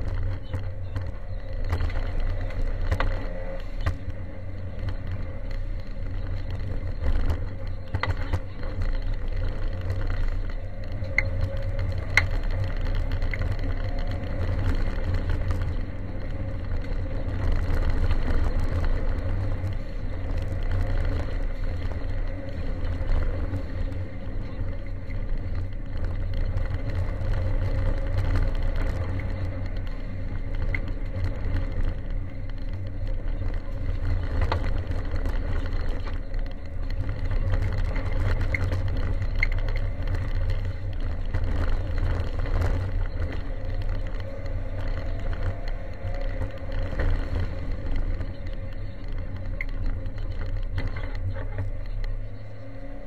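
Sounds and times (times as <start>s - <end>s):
car engine under load: 0.0s - 53.0s
tyres on gravel: 0.0s - 53.0s.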